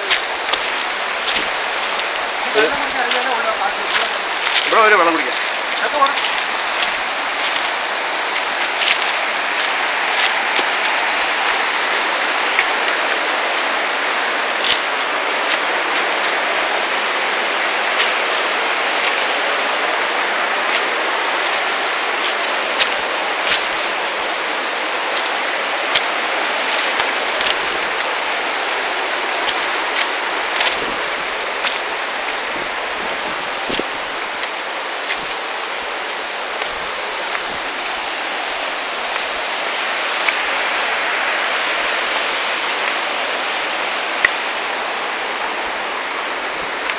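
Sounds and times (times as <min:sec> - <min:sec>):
sharp ticks and splashes: 0:00.0 - 0:45.4
water rushing over rocks: 0:00.0 - 0:46.9.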